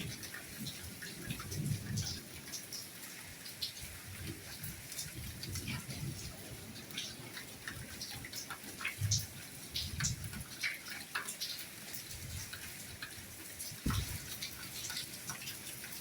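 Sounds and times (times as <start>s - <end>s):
soft rain pattering: 0.0s - 16.0s.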